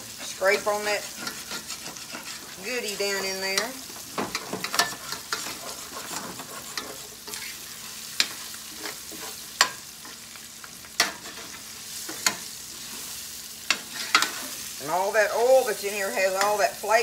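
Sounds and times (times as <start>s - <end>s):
utensil scraping pan: 0.0s - 10.2s, 10.9s - 16.6s
food sizzling in oil: 0.0s - 17.0s.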